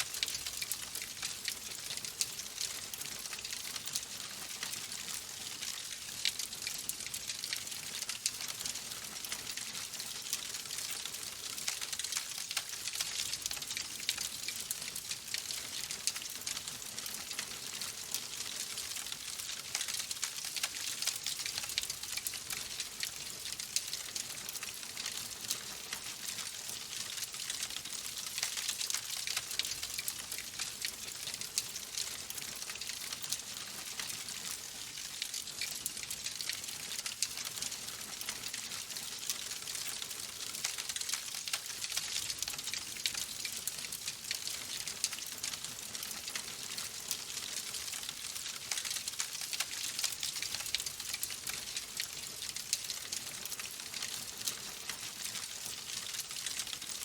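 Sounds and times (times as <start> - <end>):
logs crackling in fireplace: 0.0 - 57.0.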